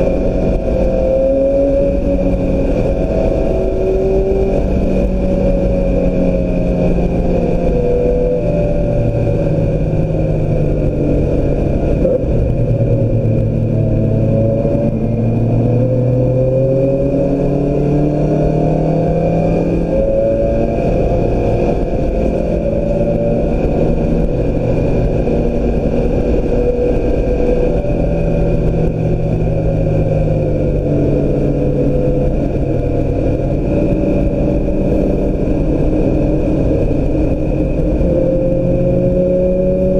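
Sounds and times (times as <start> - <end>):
car engine revving: 0.0 - 39.9
road and wind noise: 0.0 - 39.9.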